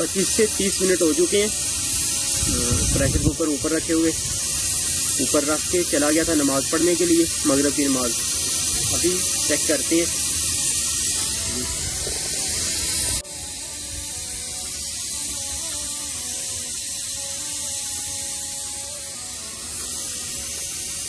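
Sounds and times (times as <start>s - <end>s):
steam hissing from pressure cooker: 0.0s - 21.0s.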